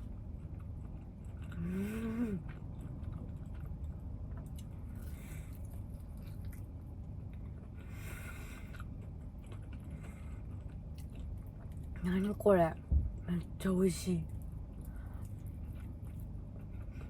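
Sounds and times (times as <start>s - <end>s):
person chewing food: 0.0s - 12.2s, 14.3s - 17.0s.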